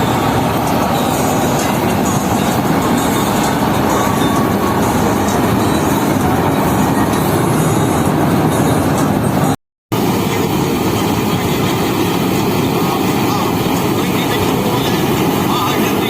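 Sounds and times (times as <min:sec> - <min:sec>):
harvesting machine running: 0:00.0 - 0:16.0.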